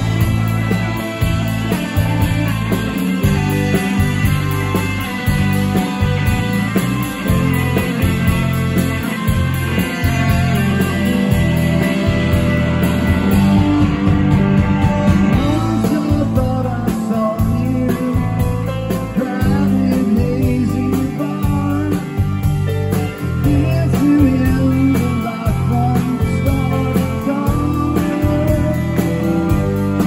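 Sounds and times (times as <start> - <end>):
bass: 0.0 - 30.0
drums with steady beat: 0.0 - 30.0
electric guitar: 0.0 - 30.0.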